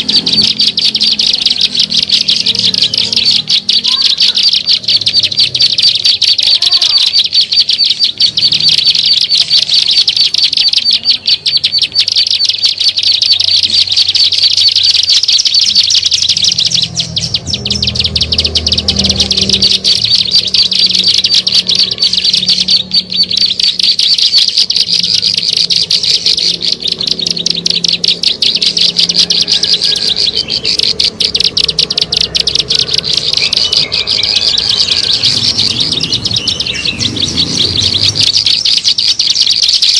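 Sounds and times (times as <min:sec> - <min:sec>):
fast high-pitched bird trill: 0:00.0 - 0:39.9.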